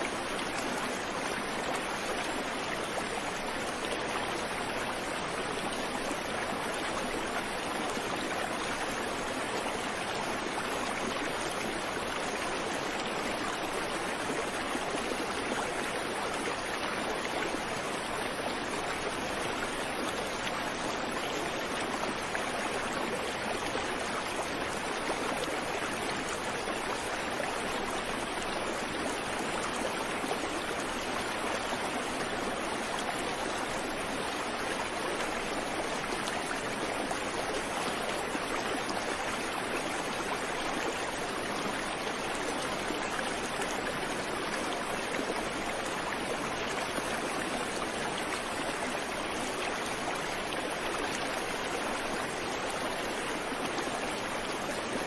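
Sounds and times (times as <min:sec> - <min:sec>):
creek water babbling: 0:00.0 - 0:55.0.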